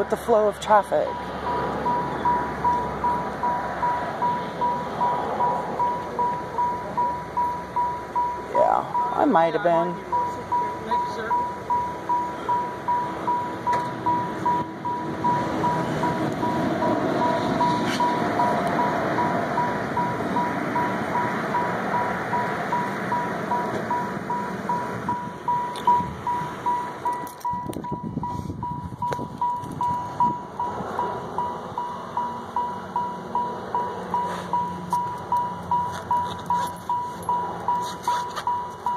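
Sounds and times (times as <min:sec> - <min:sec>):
car warning chime beeping: 0:00.0 - 0:38.9.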